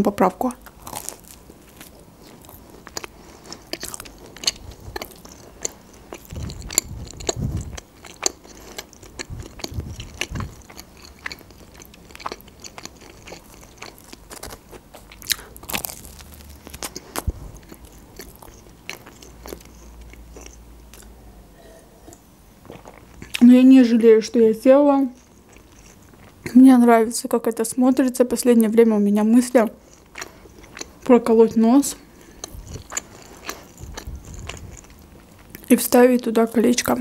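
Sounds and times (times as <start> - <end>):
crunchy chewing of pizza: 0.6 - 23.4, 25.1 - 26.6, 29.8 - 37.0.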